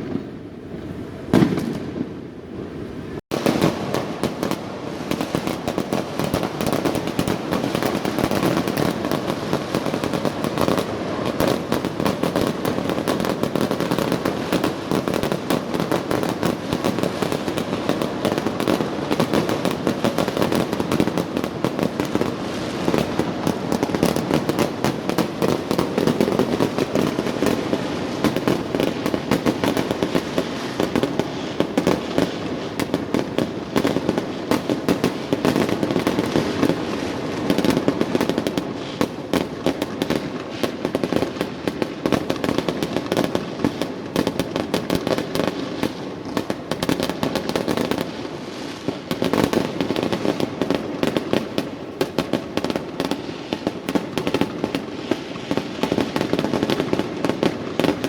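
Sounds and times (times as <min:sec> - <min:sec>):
fireworks cracking and banging: 0:00.0 - 0:02.2, 0:03.3 - 0:58.0.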